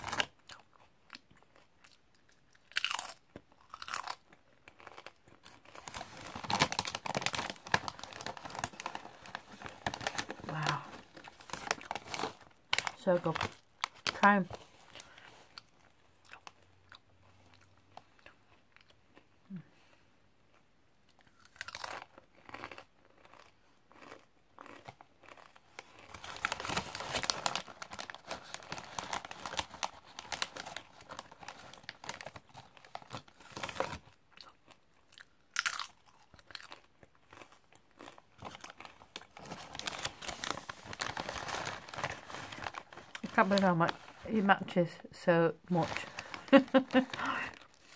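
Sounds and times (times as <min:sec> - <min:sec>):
crisps being chewed: 0:00.0 - 0:43.8, 0:46.0 - 0:47.9.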